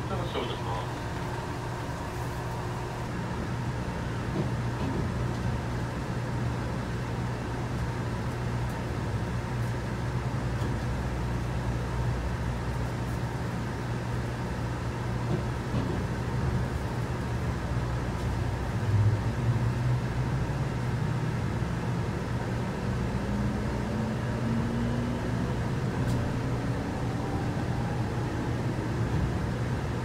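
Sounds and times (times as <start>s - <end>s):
train running hum and rumble: 0.0s - 30.0s.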